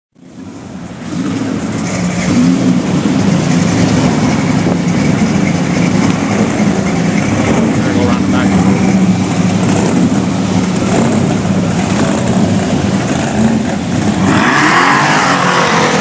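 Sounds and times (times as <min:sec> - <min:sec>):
hot rod engine running: 0:00.2 - 0:16.0.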